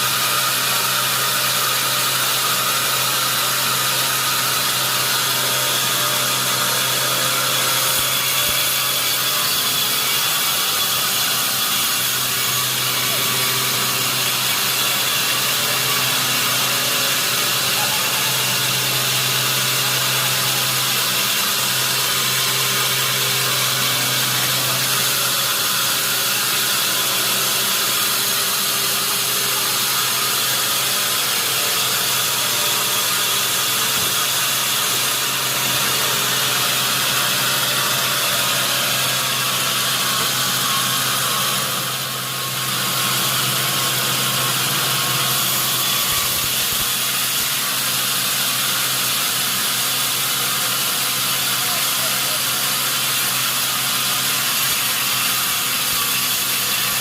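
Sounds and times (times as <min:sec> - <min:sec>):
sawmill saw hissing: 0:00.0 - 0:57.0.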